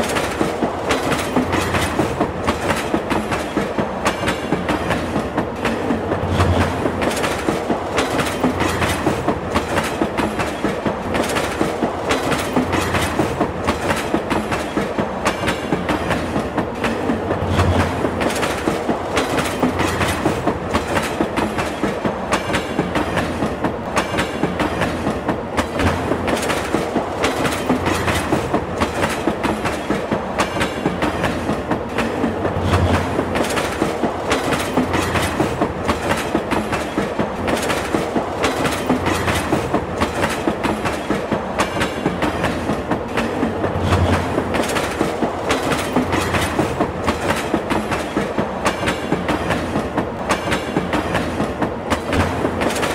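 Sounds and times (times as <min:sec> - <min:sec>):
low hum of running train: 0:00.0 - 0:52.9
train wheels clattering over rail joints: 0:00.0 - 0:52.9.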